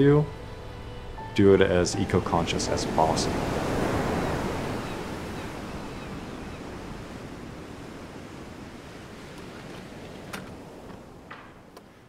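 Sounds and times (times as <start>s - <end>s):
ocean surf rushing: 0.0s - 12.0s.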